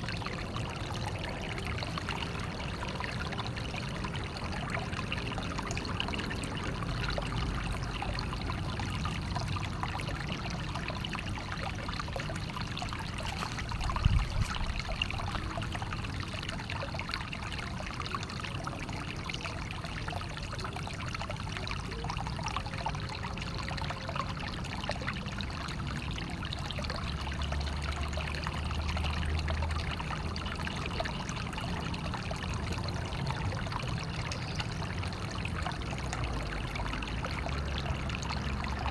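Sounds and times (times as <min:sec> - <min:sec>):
water running and trickling: 0:00.0 - 0:38.9.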